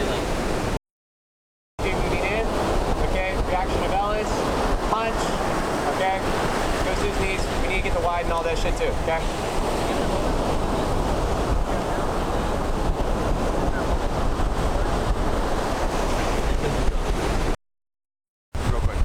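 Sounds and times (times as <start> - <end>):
ocean surf breaking: 0.0 - 0.8, 1.8 - 17.6
wind buffeting microphone: 1.8 - 17.6.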